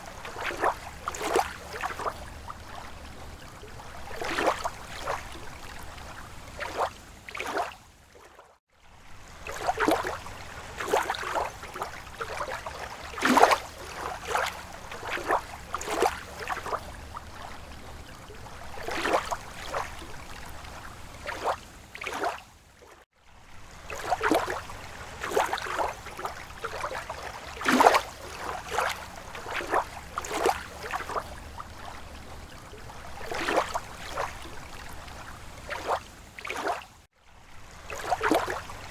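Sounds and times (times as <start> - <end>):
low steady water wash: 0.0 - 38.9
water lapping and splashing: 0.0 - 38.9.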